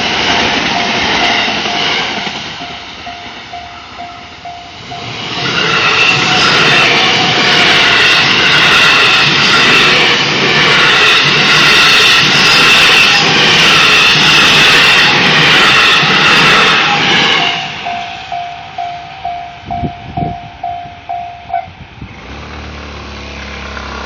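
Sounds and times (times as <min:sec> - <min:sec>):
level crossing warning bell: 0:00.0 - 0:10.0, 0:10.6 - 0:21.8
train rushing past: 0:00.0 - 0:24.0.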